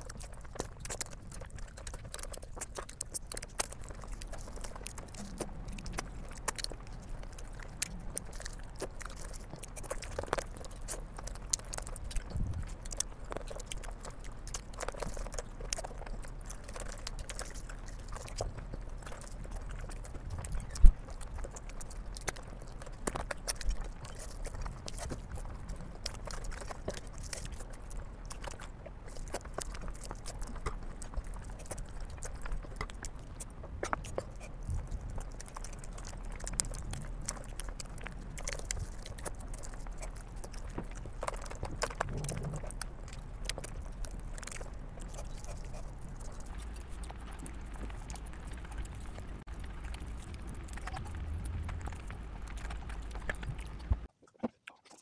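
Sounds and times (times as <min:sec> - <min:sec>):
wet chewing and lip smacks: 0:00.0 - 0:55.0.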